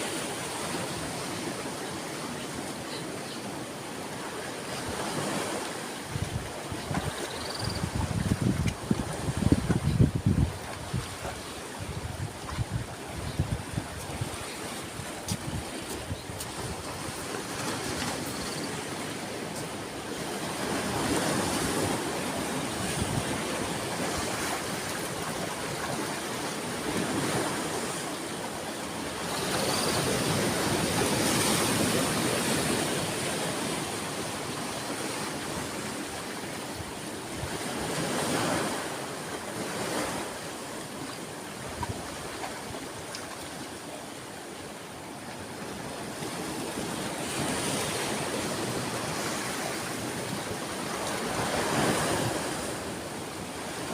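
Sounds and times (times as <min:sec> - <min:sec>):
sea waves breaking ashore: 0:00.0 - 0:53.9.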